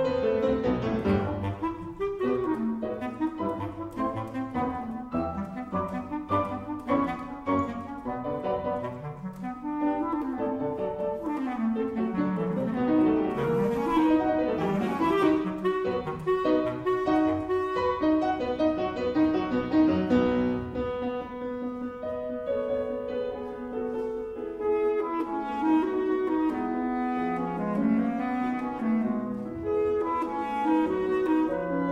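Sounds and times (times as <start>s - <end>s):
piano accompaniment: 0.0s - 31.9s
woodwind melody: 0.0s - 31.9s.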